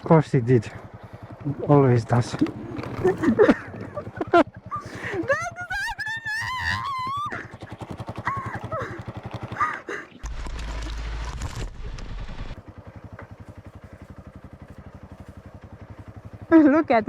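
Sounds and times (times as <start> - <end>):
motorcycle engine idling: 0.0 - 11.2, 12.0 - 17.0.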